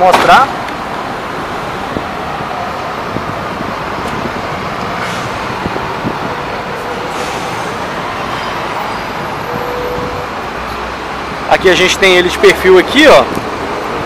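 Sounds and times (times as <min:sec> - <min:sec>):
bus engines: 0:00.0 - 0:14.0
road traffic din: 0:00.0 - 0:14.0.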